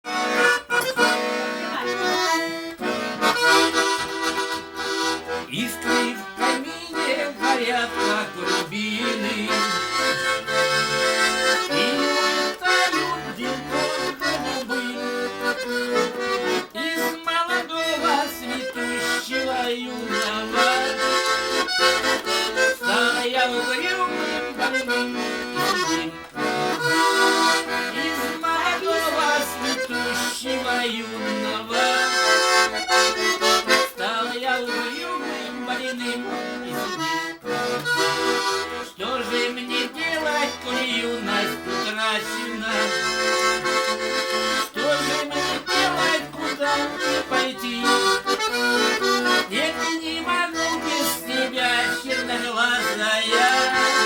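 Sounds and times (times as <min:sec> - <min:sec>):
accordion bass chords: 0:00.0 - 0:54.0
button accordion melody: 0:00.0 - 0:54.0.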